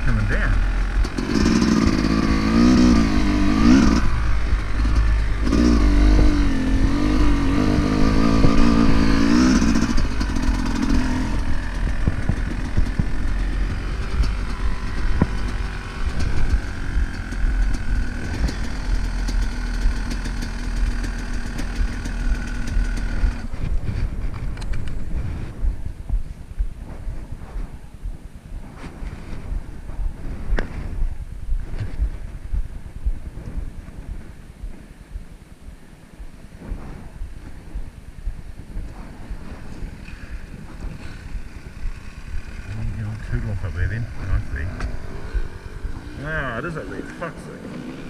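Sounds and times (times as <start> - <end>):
dirt bike engine: 0.0 - 48.0.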